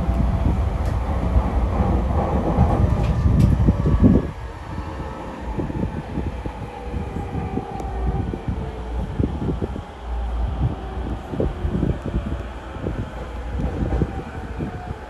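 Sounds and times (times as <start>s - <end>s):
train rail rumble: 0.0s - 15.0s.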